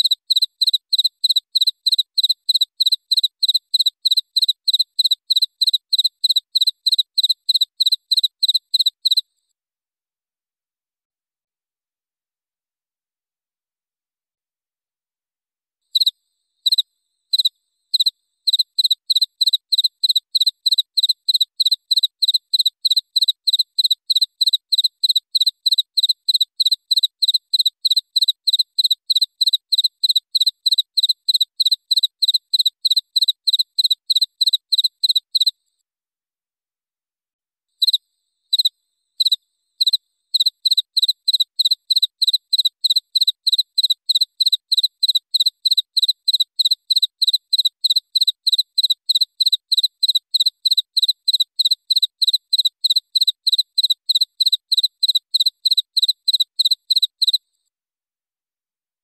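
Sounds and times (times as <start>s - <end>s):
cricket chirping: 0.0s - 9.3s, 15.9s - 35.5s, 37.8s - 57.4s.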